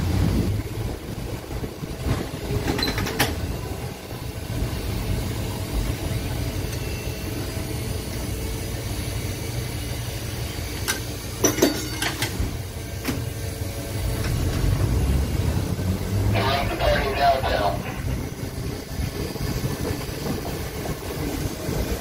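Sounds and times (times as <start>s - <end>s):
streetcar rumbling along track: 0.0s - 22.0s.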